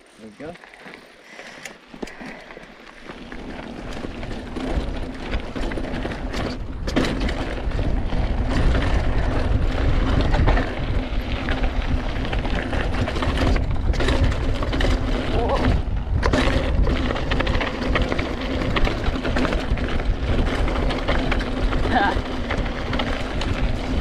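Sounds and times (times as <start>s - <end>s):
bike rattling over rocks: 0.0s - 24.0s
tyres crunching over gravel: 0.0s - 24.0s
wind buffeting microphone: 3.1s - 24.0s.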